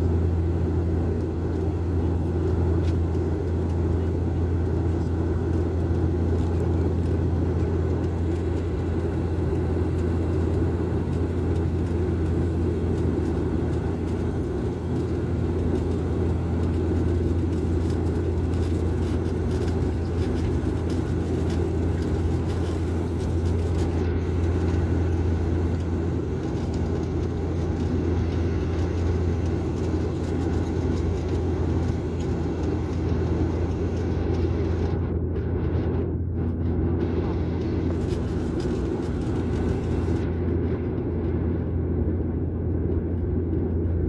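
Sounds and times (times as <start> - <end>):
airliner engines droning: 0.0 - 44.0.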